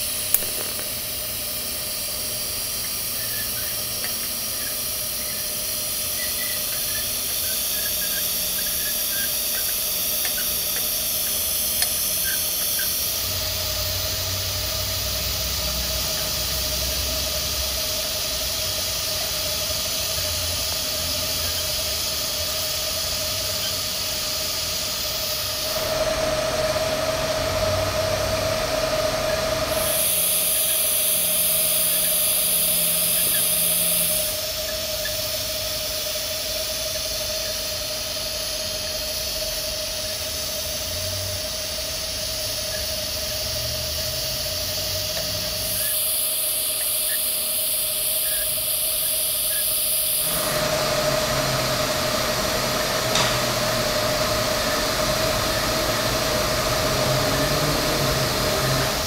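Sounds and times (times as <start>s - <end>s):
welding arc hiss: 0.0s - 59.0s.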